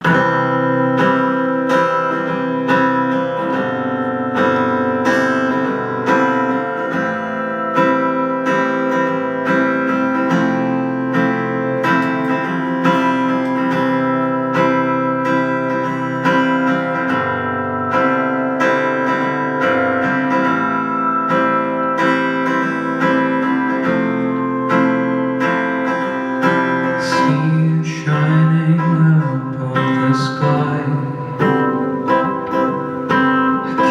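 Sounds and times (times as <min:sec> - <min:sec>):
acoustic guitar chords: 0:00.0 - 0:33.9.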